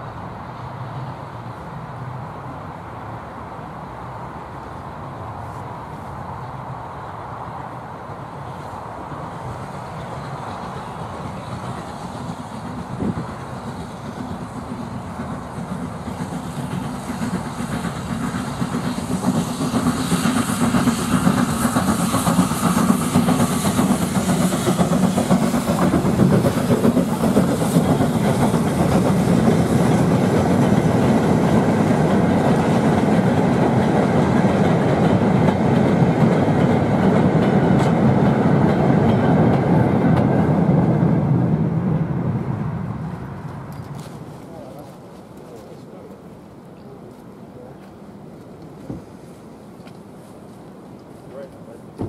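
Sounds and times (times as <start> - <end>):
steam locomotive passing: 0.0 - 52.0.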